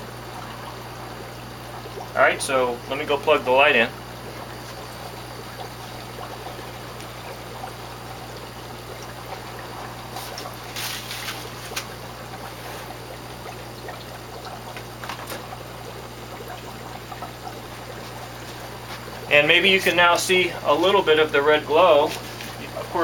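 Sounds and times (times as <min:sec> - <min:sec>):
pump humming: 0:00.0 - 0:23.0
water trickling and bubbling: 0:00.0 - 0:23.0.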